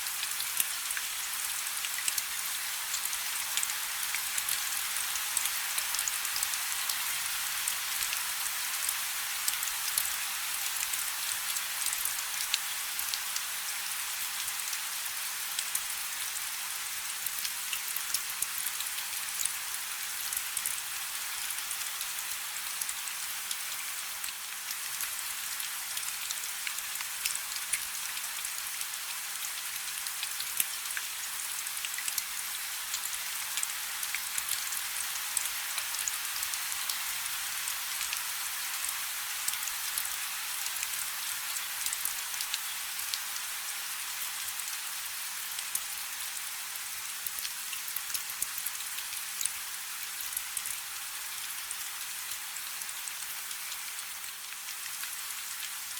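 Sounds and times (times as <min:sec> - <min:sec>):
rain falling on a river: 0:00.0 - 0:55.9.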